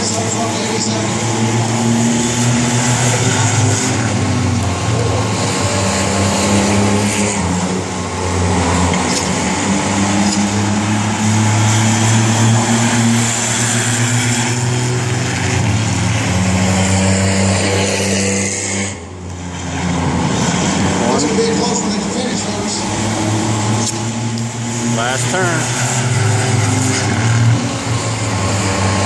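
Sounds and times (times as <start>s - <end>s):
race car engines drone: 0.0s - 29.0s.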